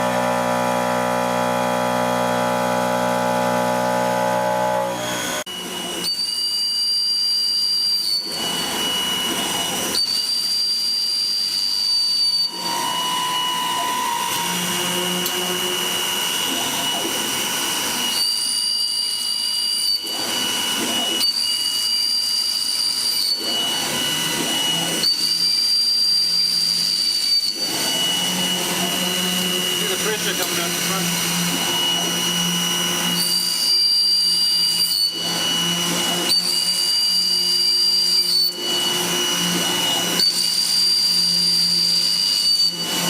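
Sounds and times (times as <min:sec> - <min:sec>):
milling spindle whine: 0:00.0 - 0:43.0.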